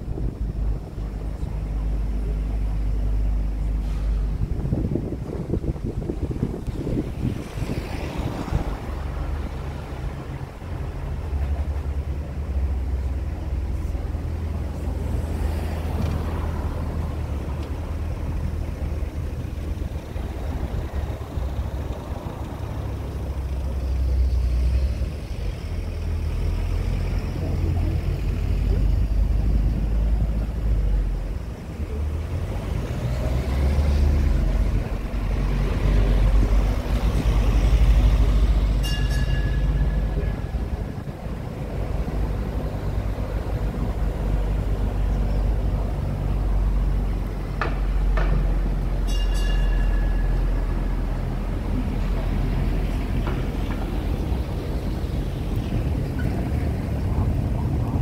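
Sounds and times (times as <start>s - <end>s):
road noise: 0.0s - 58.0s
road train engine rumbling: 0.0s - 58.0s.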